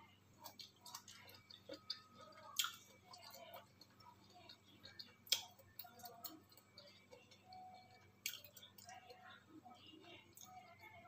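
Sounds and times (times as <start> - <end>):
person chewing: 0.4 - 9.3.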